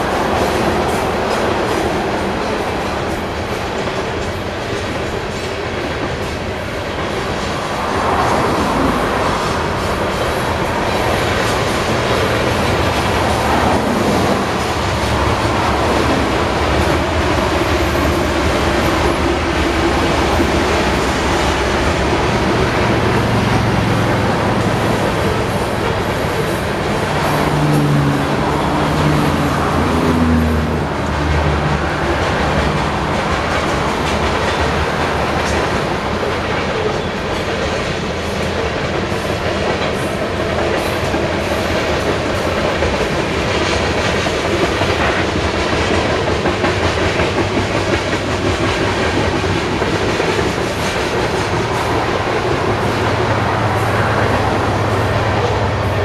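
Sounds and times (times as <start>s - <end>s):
diesel locomotive drone: 0.0s - 56.0s
train wheels rumbling on rails: 0.0s - 56.0s
wheels clacking over rail joints: 0.0s - 56.0s.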